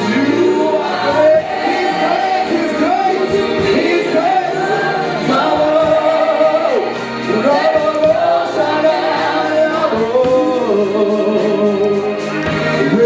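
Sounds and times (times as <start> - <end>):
steady beat: 0.0 - 13.0
voices singing gospel song: 0.0 - 13.0.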